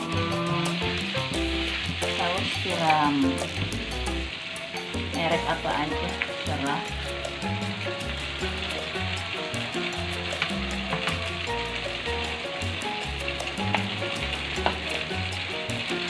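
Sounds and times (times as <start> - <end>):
background music with bass: 0.0 - 16.0
paste sizzling in a wok: 0.0 - 16.0.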